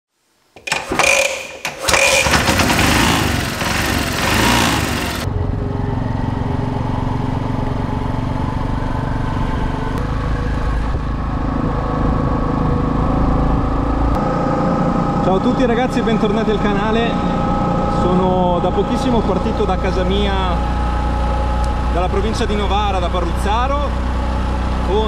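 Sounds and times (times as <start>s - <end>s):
scooter engine revving and running: 0.7s - 25.0s.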